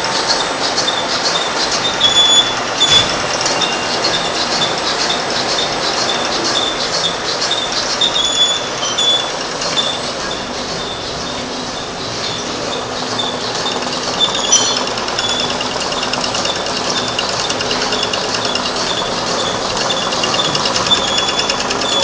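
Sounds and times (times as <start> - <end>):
sewing machine clatter: 0.0 - 22.0.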